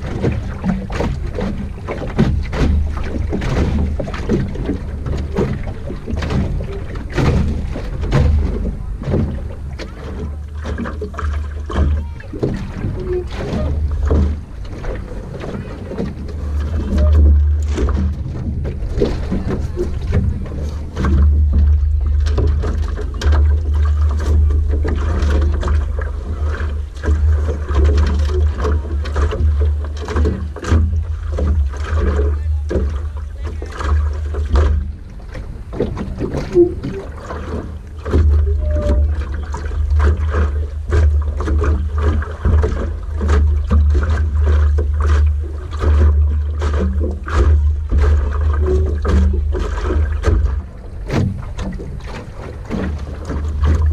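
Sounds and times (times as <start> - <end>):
water slapping against hull: 0.0 - 53.9
wind rumble on microphone: 0.0 - 53.9.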